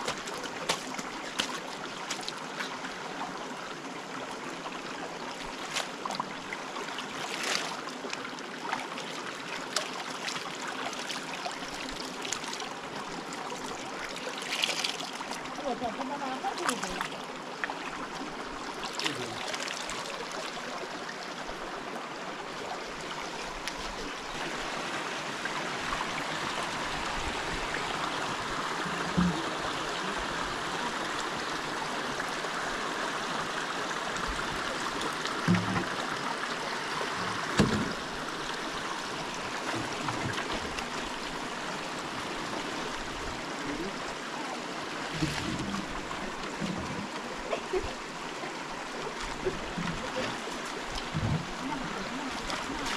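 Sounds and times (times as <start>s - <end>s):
river flowing: 0.0s - 52.9s.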